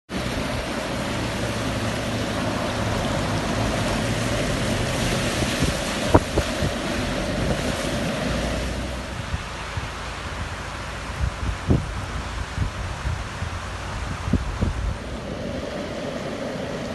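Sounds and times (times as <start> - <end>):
floodwater running in street: 0.1 - 16.9
heavy rain: 0.1 - 16.9.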